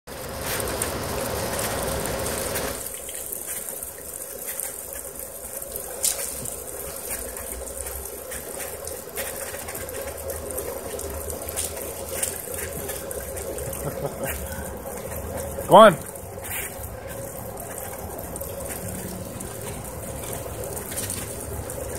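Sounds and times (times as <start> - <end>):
running aerated water hiss: 0.1 - 21.9.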